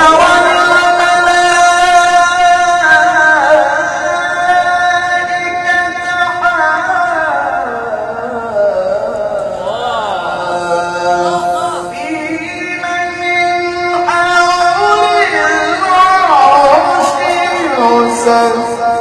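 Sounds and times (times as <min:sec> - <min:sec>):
man reciting in melodic chant: 0:00.0 - 0:19.0.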